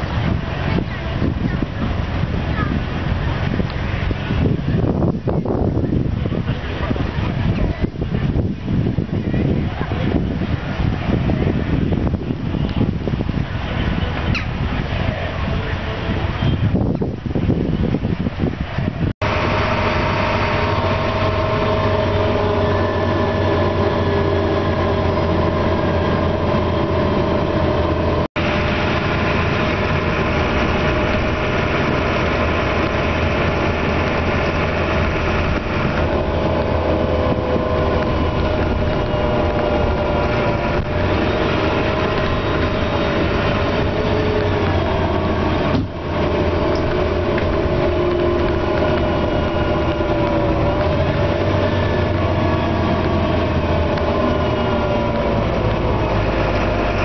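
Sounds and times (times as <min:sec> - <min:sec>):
steady whine: 0:00.0 - 0:57.0
vehicle engine running: 0:00.0 - 0:57.0.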